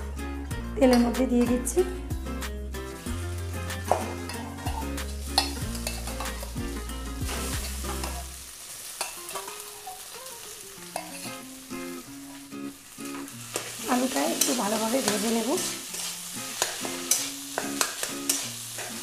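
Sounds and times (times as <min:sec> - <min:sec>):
potatoes sizzling in hot oil: 0:00.8 - 0:19.0.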